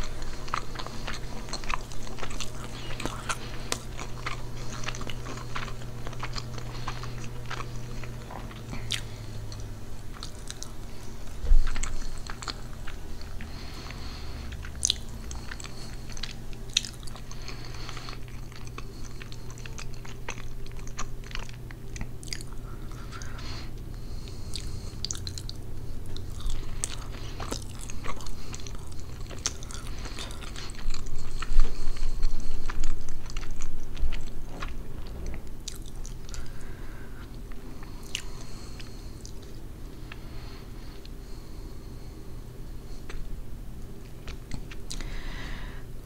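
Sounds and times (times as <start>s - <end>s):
close chewing mouth sounds: 0.0s - 42.0s, 42.6s - 45.4s.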